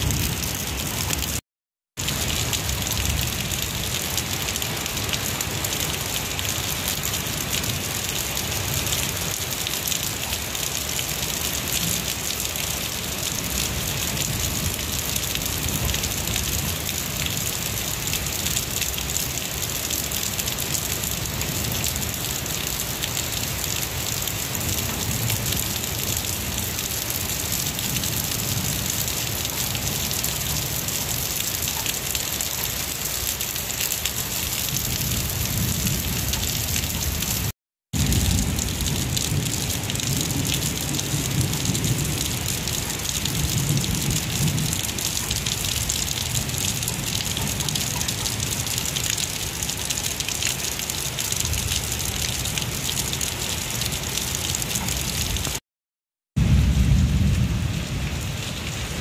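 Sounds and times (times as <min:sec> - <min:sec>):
heavy rain on foliage: 0:00.0 - 0:01.4, 0:02.0 - 0:55.6, 0:56.4 - 0:59.0.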